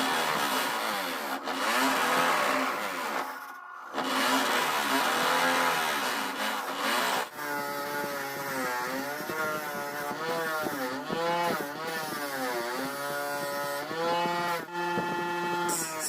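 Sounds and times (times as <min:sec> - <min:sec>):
power tool motor running: 0:00.0 - 0:16.0.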